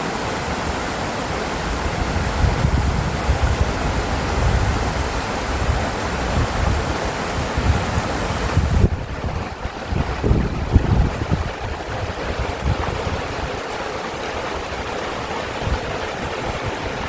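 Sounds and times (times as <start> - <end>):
mountain stream rushing: 0.0 - 17.0
wind buffeting microphone: 0.4 - 17.0.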